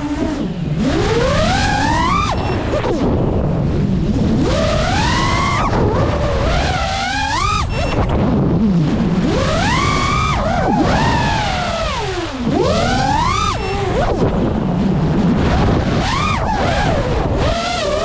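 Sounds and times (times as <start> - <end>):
drone motors whining: 0.0 - 18.0
wind on microphone: 0.0 - 18.0.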